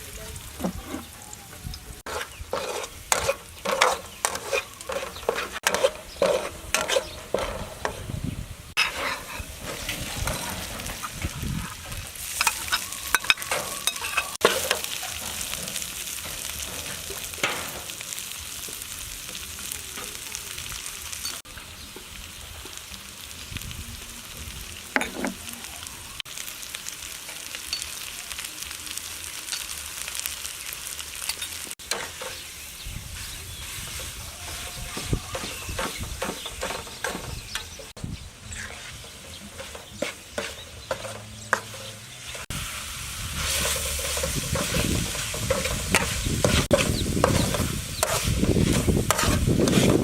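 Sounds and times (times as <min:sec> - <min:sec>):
food sizzling: 0:00.0 - 0:50.0.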